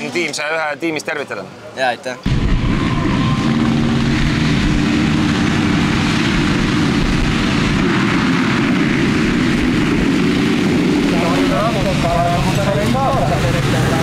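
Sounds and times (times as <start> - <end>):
motocross bikes revving: 2.8 - 14.0.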